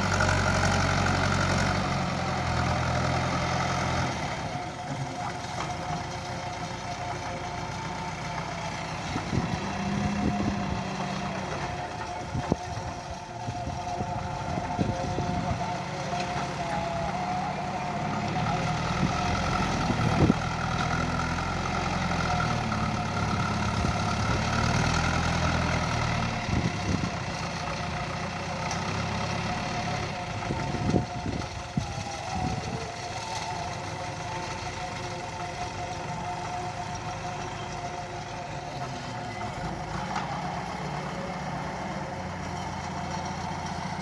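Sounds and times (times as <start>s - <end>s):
diesel engine running: 0.0s - 44.0s
engine whine: 0.0s - 44.0s.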